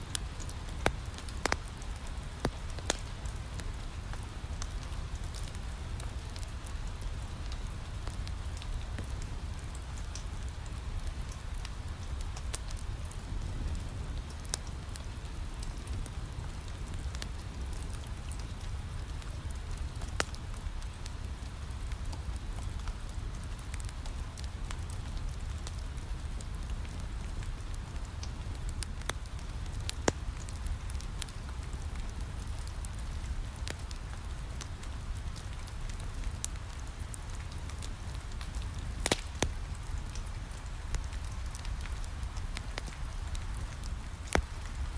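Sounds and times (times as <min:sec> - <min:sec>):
steady rain: 0:00.0 - 0:44.9
wood fire crackling: 0:00.0 - 0:44.9.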